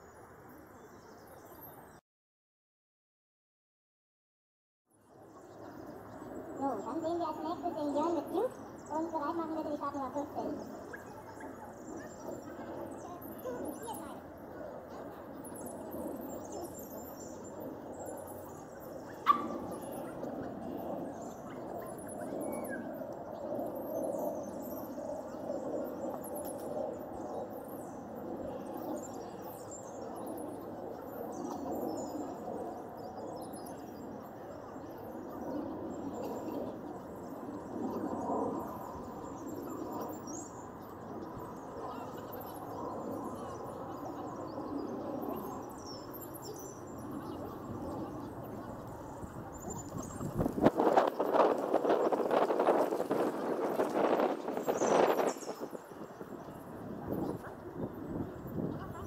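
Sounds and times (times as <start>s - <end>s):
small birds chirping: 5.0s - 59.0s
low background murmur: 5.2s - 59.0s.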